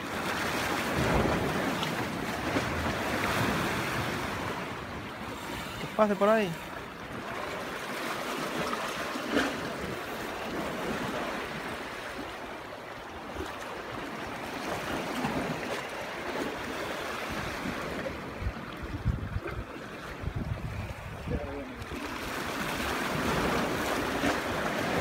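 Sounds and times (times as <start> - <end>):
sea waves washing against rocks: 0.0 - 25.0.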